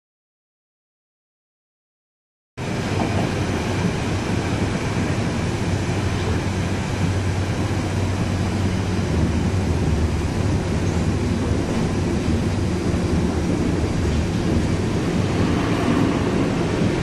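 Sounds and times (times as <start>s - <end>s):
subway train running rumble: 2.6s - 17.0s.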